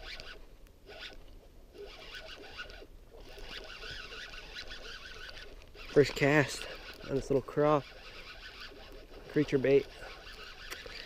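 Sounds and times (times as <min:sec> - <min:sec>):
fishing reel cranking: 0:00.0 - 0:11.0.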